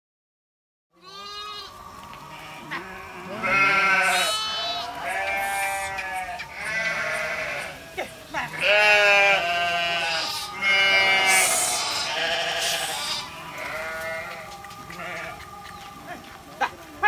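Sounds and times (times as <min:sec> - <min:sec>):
goats bleating: 0:01.0 - 0:16.8.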